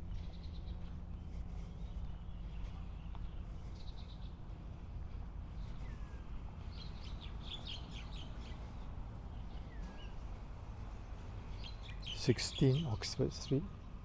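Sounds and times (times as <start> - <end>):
steady low rumble: 0.0 - 12.1
birds chirping: 0.0 - 14.0.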